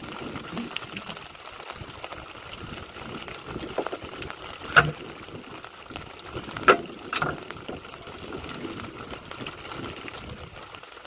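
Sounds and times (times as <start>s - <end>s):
light rain falling on sea: 0.0s - 11.0s.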